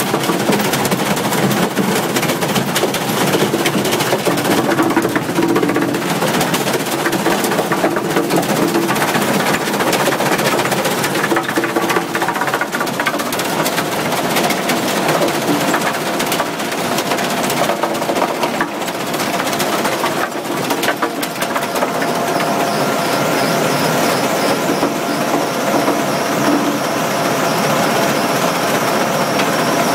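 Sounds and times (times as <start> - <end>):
soil and stones rattling: 0.0 - 27.0
diesel screener running: 0.0 - 29.9.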